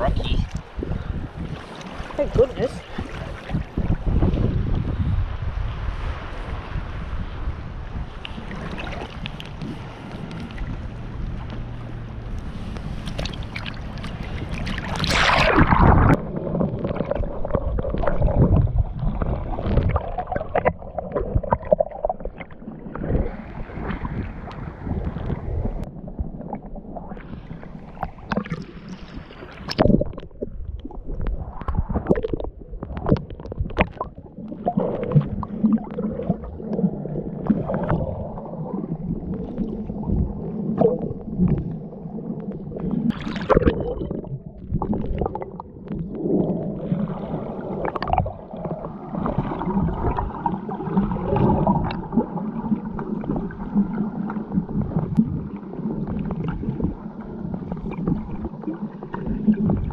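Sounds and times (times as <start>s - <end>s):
water gurgling and sloshing: 0.0s - 59.9s.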